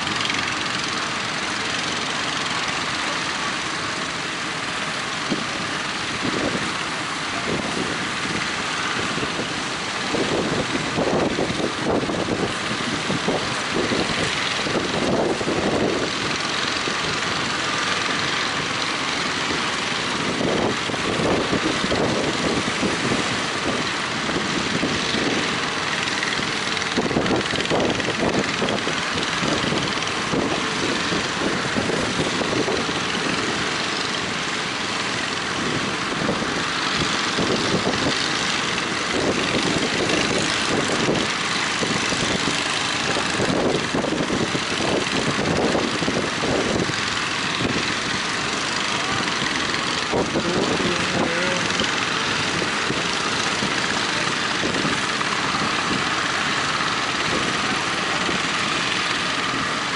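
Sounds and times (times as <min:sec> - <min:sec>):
boat engines running: 0:00.0 - 0:59.9.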